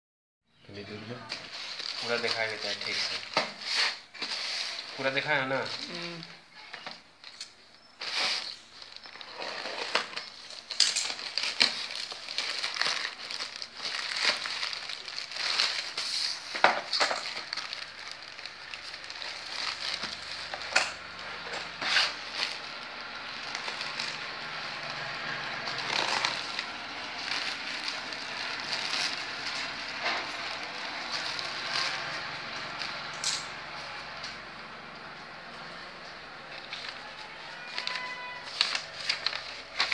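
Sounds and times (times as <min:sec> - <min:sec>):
plastic mailer crinkling and tearing: 0:00.9 - 0:34.7, 0:35.6 - 0:39.9.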